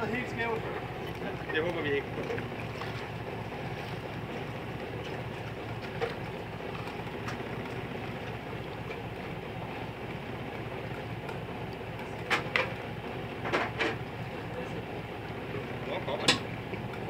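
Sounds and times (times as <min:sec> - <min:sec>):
boat engine running: 0:00.0 - 0:17.0
sea noise: 0:00.0 - 0:17.0
wind: 0:00.0 - 0:17.0.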